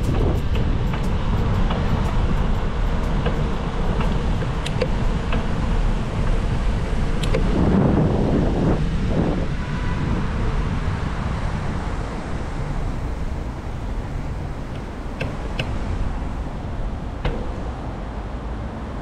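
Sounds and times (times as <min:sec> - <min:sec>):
street traffic: 0:00.0 - 0:19.0
wind buffeting microphone: 0:00.0 - 0:19.0.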